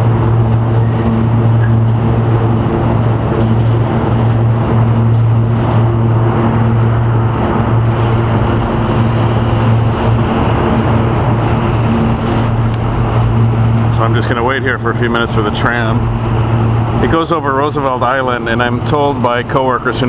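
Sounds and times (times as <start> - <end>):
low mechanical engine hum: 0.0 - 20.0
traffic: 0.0 - 20.0.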